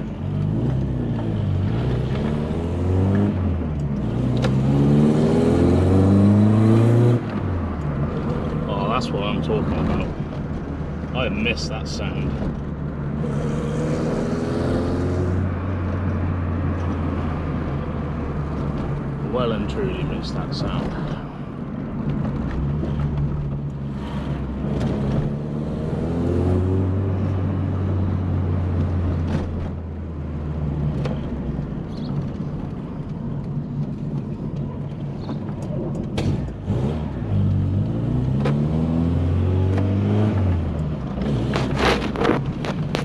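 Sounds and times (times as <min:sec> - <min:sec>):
car engine revving: 0:00.2 - 0:21.2, 0:22.1 - 0:32.4, 0:36.1 - 0:43.0.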